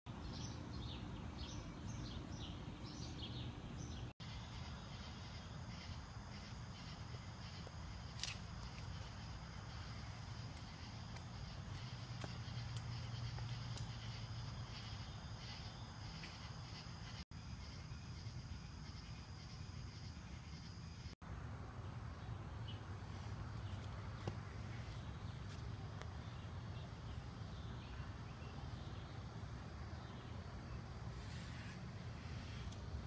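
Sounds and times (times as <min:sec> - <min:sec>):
insects chirping: 0:02.3 - 0:33.0.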